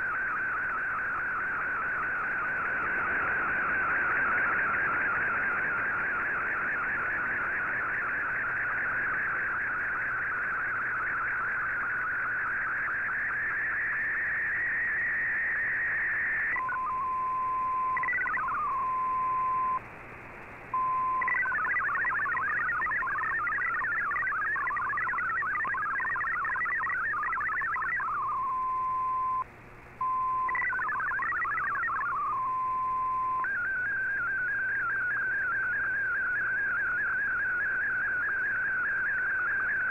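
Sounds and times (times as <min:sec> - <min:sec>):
hopping data tones: 0:00.0 - 0:19.8, 0:20.7 - 0:39.9
warbling sstv tones: 0:00.0 - 0:39.9.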